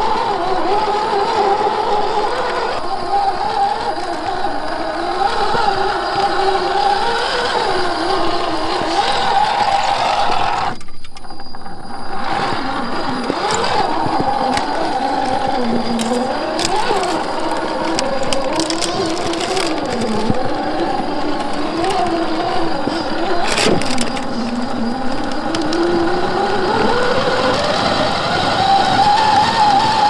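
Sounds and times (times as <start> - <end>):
electric motor and gearbox whining: 0.0 - 30.0
tyres and chassis clicking on rock: 0.0 - 30.0.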